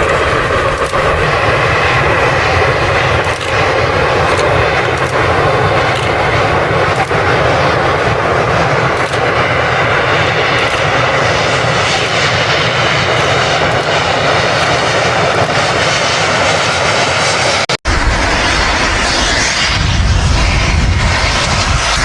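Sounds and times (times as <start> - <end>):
steam locomotive roaring: 0.0 - 22.0.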